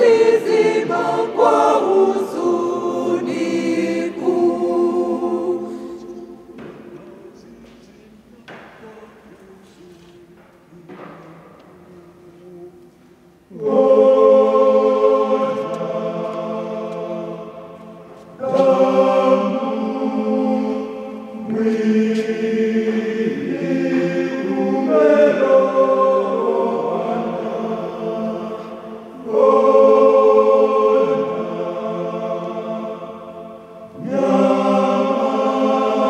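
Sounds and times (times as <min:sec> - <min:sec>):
choir singing a hymn: 0:00.0 - 0:07.8, 0:08.5 - 0:36.0.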